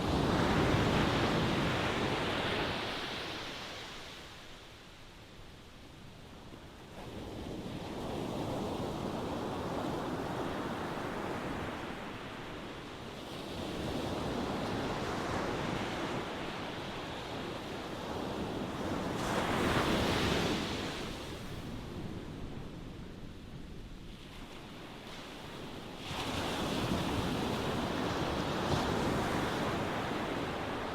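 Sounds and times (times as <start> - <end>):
ocean waves breaking on shore: 0.0 - 5.1, 6.6 - 30.9.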